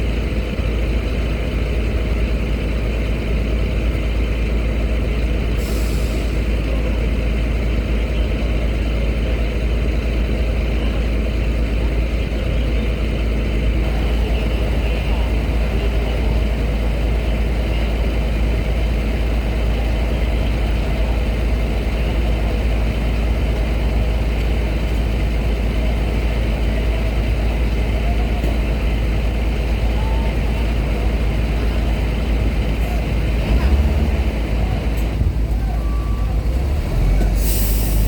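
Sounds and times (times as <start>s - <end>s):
car engines: 0.0s - 38.0s
heavy truck engines rumbling: 0.0s - 38.0s.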